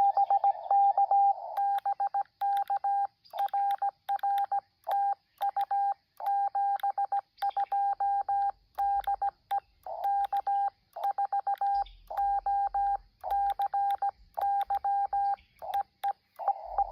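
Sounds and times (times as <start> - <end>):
faint keying clicks: 1.6 - 12.5, 13.2 - 16.5.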